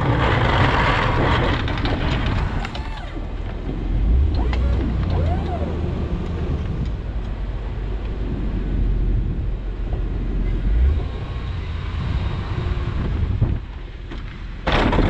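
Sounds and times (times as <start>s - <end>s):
road noise: 0.0s - 15.0s
truck engine rumbling: 0.0s - 15.0s.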